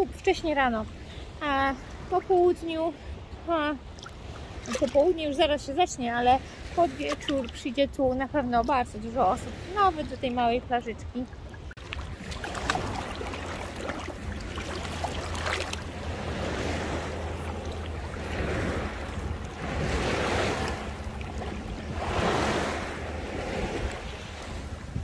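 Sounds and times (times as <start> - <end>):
small waves lapping: 0.0 - 25.0
wind rumbling on microphone: 0.0 - 25.0.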